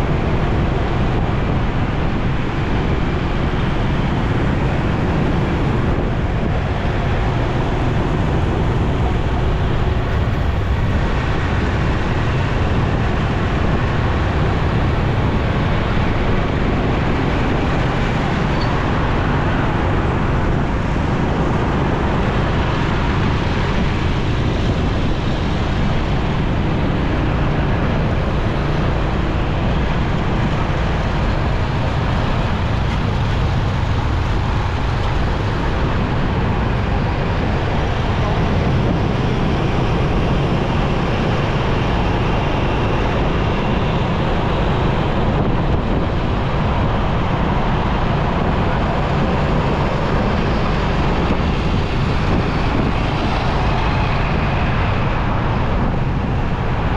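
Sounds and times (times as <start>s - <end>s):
surrounding traffic: 0.0s - 56.9s
wind and road noise: 0.0s - 56.9s.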